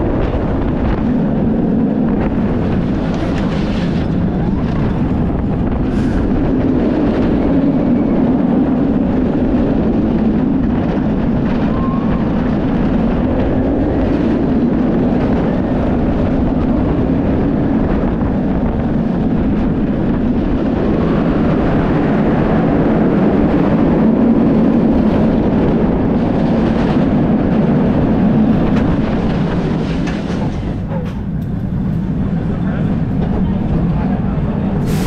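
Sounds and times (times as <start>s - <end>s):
roller coaster roaring on track: 0.0s - 35.0s
wind rushing over microphone: 0.0s - 35.0s.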